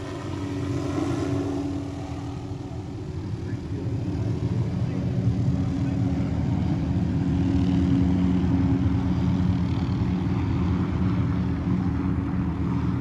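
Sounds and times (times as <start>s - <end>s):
helicopter flying: 0.0s - 13.0s.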